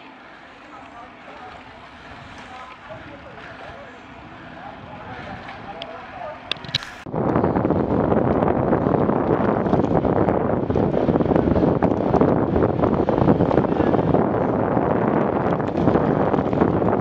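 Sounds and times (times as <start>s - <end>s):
wind buffeting microphone: 1.0s - 17.0s.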